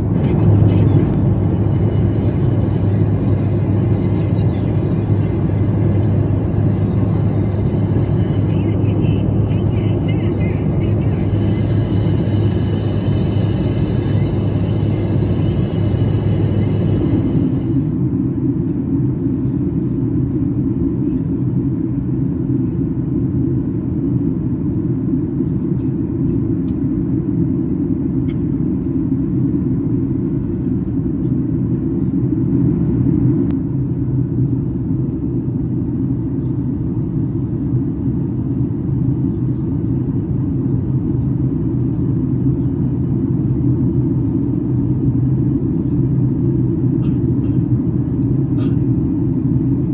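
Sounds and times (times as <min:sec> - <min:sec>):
airliner cabin drone: 0:00.0 - 0:49.9.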